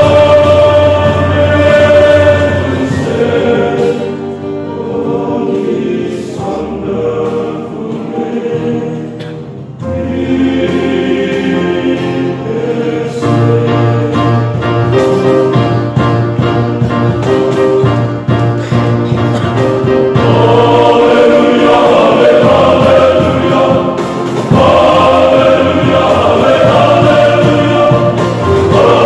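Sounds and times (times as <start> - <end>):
men's choir singing a hymn: 0.0 - 29.0.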